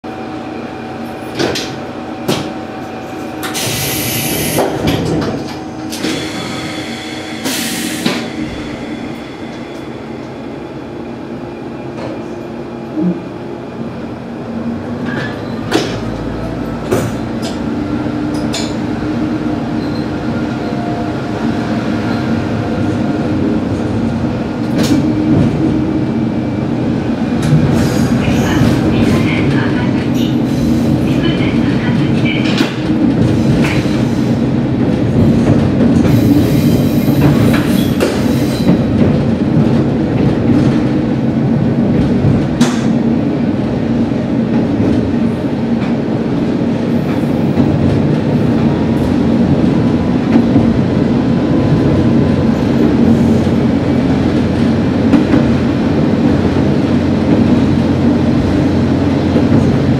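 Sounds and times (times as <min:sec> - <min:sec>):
diesel train engine: 0:00.0 - 0:59.9.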